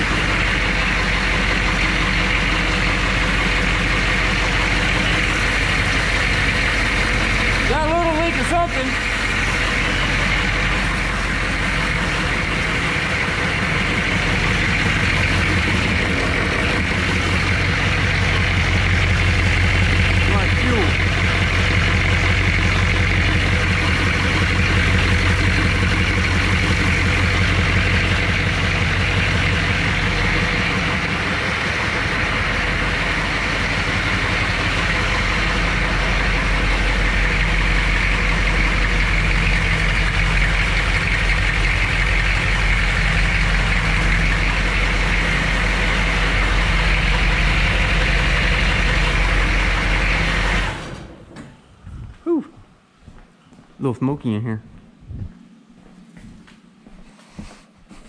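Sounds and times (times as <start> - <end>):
diesel engine running: 0.0 - 52.1.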